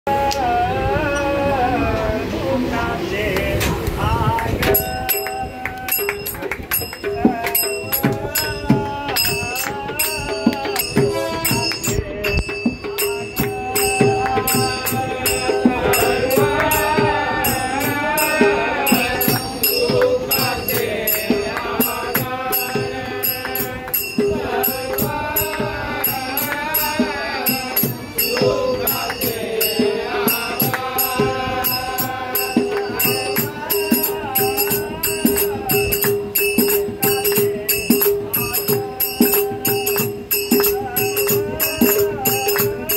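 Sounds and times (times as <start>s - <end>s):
men singing together: 0.1s - 42.9s
small hand cymbals clashing: 4.7s - 42.9s.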